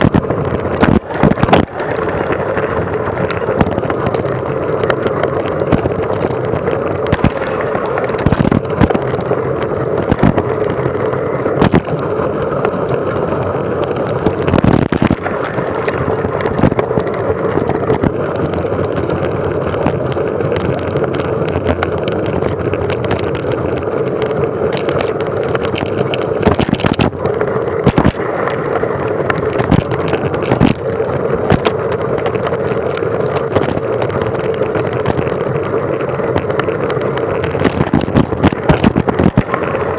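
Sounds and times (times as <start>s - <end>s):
wind and tyres rushing: 0.0s - 39.9s.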